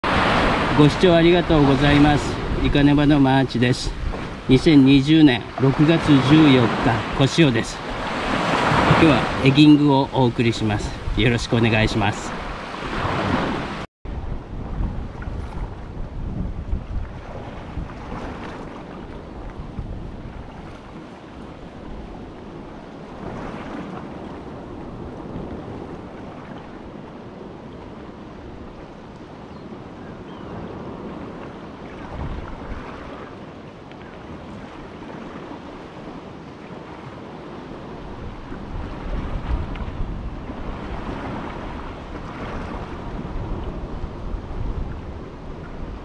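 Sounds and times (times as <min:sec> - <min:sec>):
sea waves: 0:00.0 - 0:46.0
wind on microphone: 0:00.0 - 0:46.0.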